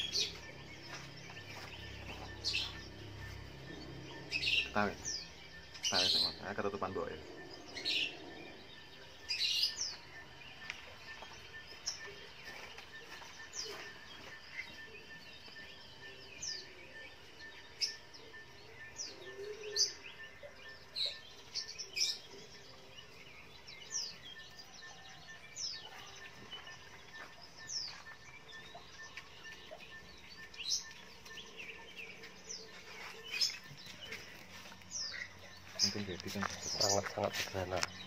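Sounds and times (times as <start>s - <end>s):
bird chirps sweeping downward: 0.0s - 38.0s.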